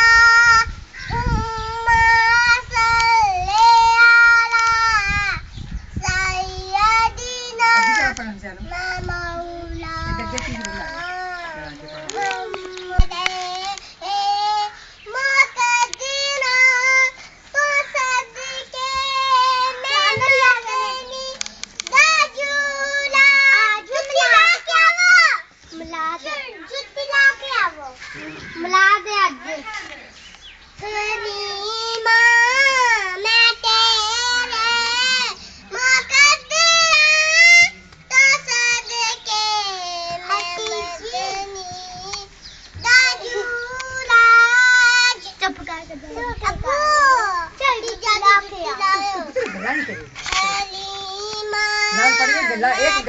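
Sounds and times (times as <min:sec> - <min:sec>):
girl singing unaccompanied: 0:00.0 - 0:29.7, 0:30.6 - 0:53.0.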